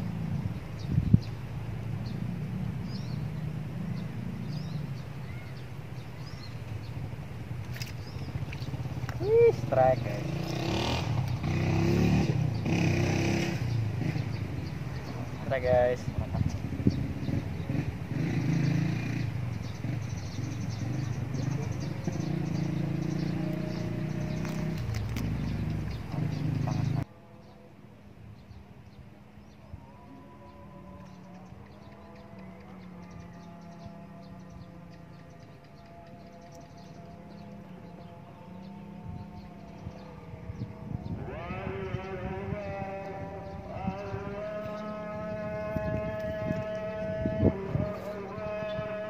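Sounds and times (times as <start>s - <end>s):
small engine rumbling: 0.0s - 27.1s, 28.3s - 49.0s
small birds chirping: 0.0s - 27.7s, 28.3s - 49.0s.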